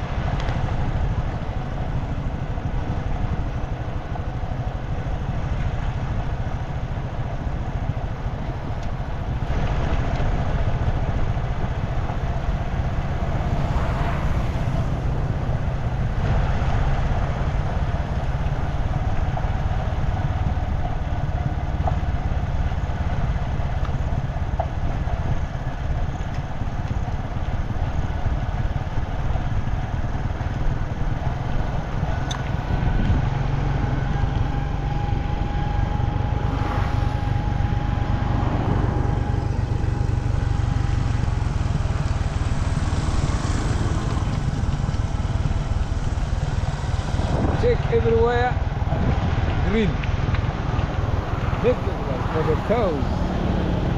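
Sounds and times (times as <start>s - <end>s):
road noise: 0.0s - 53.9s
vehicle engine rumble: 0.0s - 53.9s.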